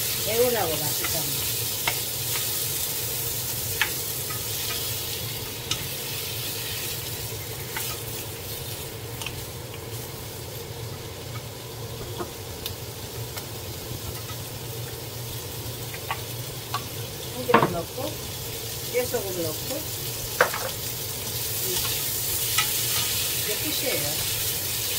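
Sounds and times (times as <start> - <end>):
vegetables sizzling in a frying pan: 0.0 - 24.9.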